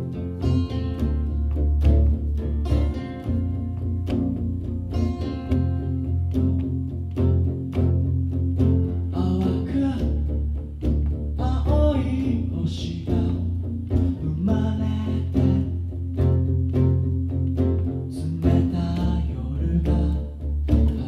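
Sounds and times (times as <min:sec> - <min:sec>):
acoustic bass guitar line: 0:00.0 - 0:21.0
acoustic guitar strumming: 0:00.0 - 0:21.0.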